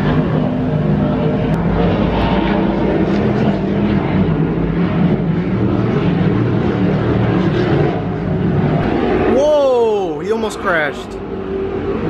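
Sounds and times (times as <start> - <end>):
powerboat engines droning: 0.0 - 12.0.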